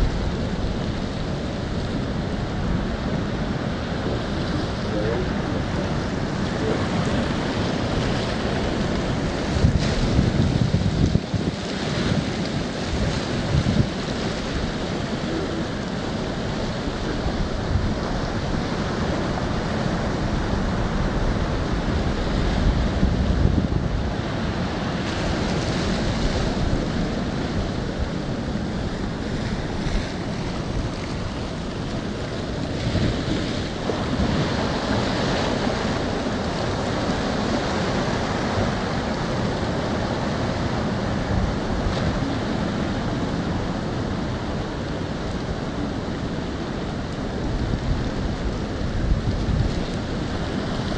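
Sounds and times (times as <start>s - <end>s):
surf washing up beach: 0.0s - 50.9s
wind noise on microphone: 0.0s - 50.9s.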